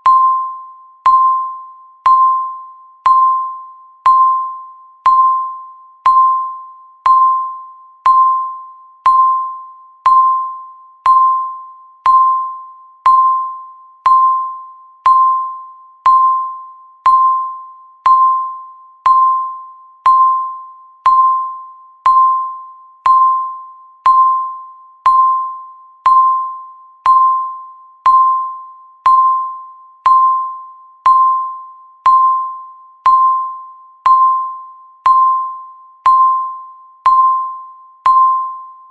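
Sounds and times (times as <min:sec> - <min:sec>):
timer beeping: 0:00.0 - 0:38.9.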